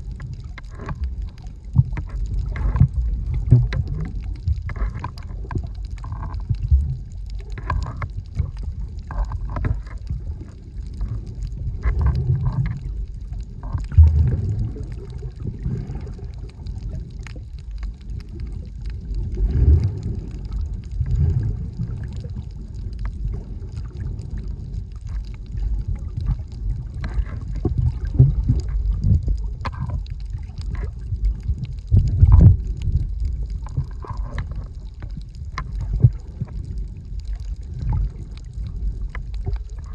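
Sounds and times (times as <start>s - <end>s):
underwater water rush: 0.0s - 39.9s.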